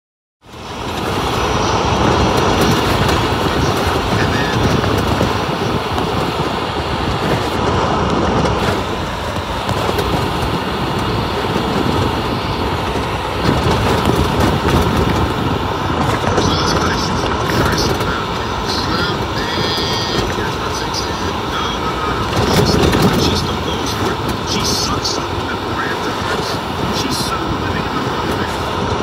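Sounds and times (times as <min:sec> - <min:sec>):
engine and tyres on wet road: 0:00.4 - 0:29.0.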